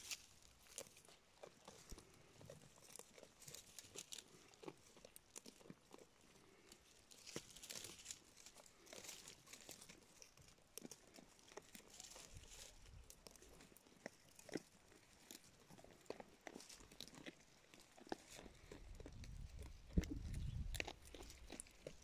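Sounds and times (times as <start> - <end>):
goat chewing dry grass: 0.0 - 22.0.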